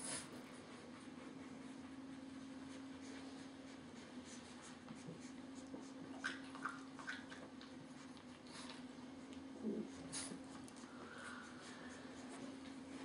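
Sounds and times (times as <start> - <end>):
puppies rustling on a blanket: 0.0 - 13.0
steady low hum: 0.0 - 13.0.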